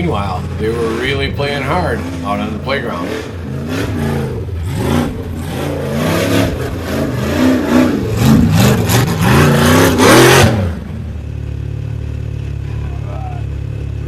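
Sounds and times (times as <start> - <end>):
engine revving: 0.0 - 14.0.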